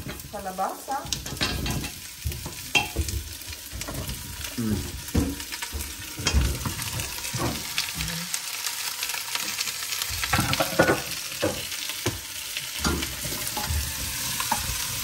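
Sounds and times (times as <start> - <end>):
pumpkin sizzling in pot: 0.0 - 15.0.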